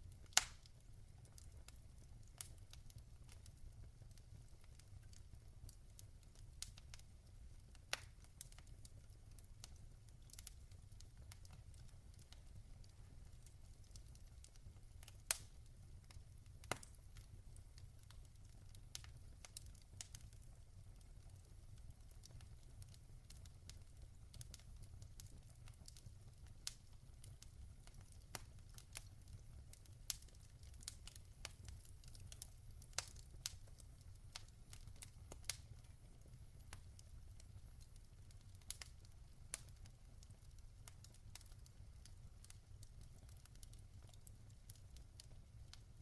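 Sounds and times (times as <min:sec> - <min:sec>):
logs crackling and popping in fireplace: 0:00.0 - 0:46.0.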